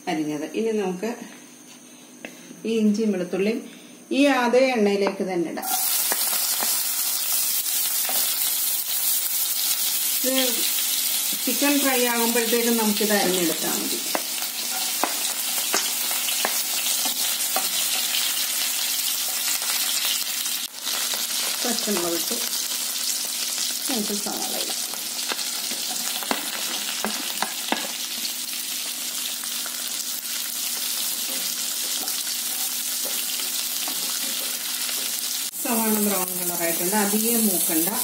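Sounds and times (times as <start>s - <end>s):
food sizzling in hot oil: 5.6s - 38.0s.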